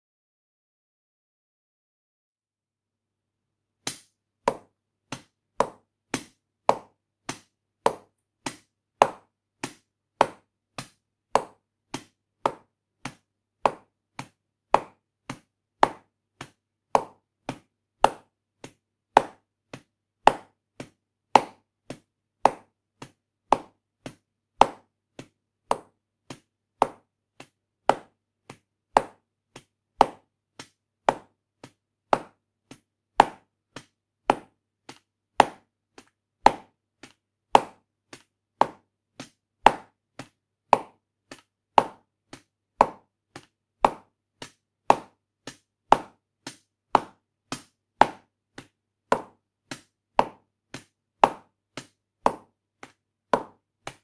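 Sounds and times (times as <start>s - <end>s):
rubber stamp knocking: 3.9s - 52.5s.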